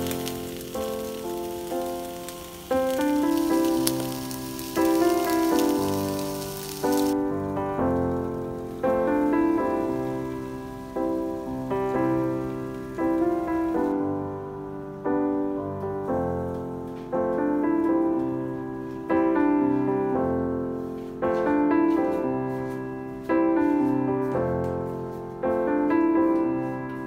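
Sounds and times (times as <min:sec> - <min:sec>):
slow piano piece: 0:00.0 - 0:27.0.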